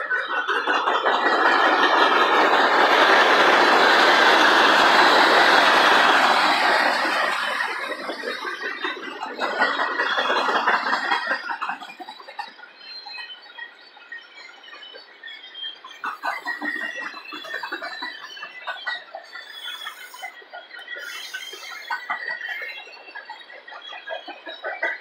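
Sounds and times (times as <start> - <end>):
train wheels rumbling on rails: 0.0 - 13.8, 15.9 - 25.0.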